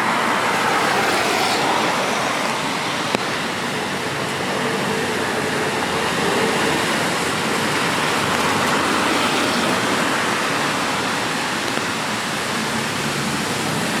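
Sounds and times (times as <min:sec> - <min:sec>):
rain hissing: 0:00.0 - 0:14.0
traffic on wet road: 0:00.0 - 0:14.0.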